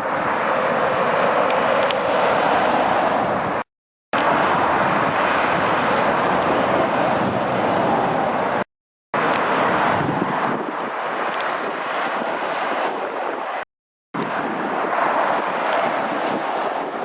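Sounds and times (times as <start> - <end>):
heavy traffic passing: 0.0 - 17.0.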